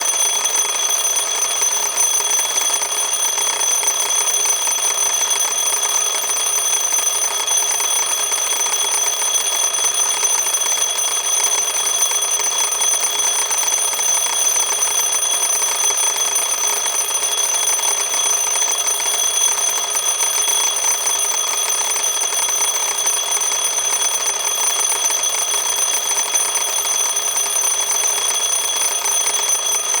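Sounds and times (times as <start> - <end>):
alarm clock ringing: 0.0 - 30.0.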